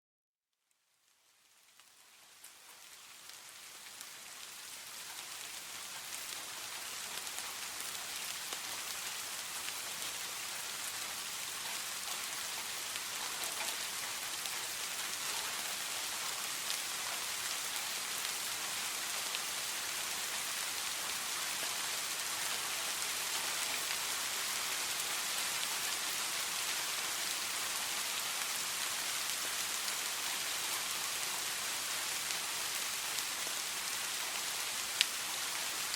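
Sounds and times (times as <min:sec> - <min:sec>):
steady rain falling: 0:00.6 - 0:35.9.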